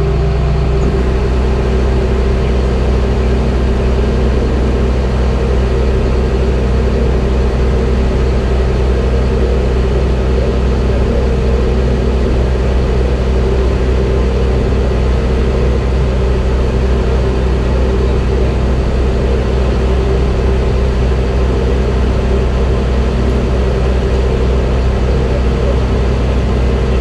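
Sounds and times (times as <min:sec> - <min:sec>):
truck diesel engine running: 0:00.0 - 0:27.0.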